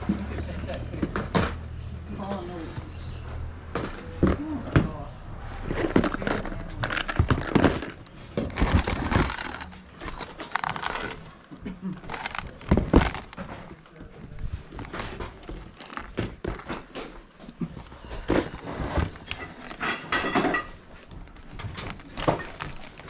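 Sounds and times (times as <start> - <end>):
objects clattering and rattling: 0.0 - 23.0.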